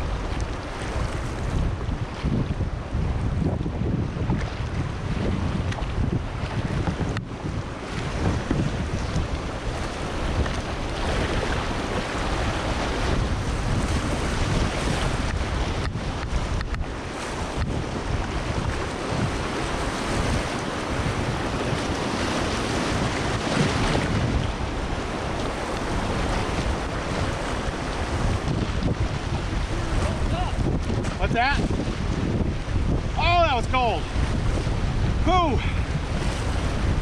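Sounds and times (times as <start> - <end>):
river water rushing and splashing: 0.0 - 37.0
wind buffeting microphone: 0.0 - 37.0.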